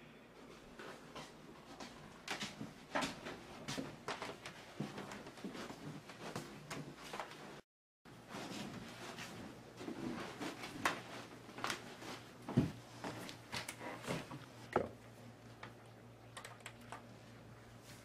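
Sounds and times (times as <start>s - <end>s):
knocks and clatter in a room: 0.0s - 15.8s.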